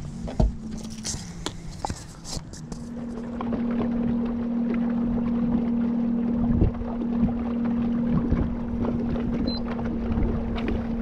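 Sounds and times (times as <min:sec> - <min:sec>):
electric boat motor humming: 0:00.0 - 0:11.0.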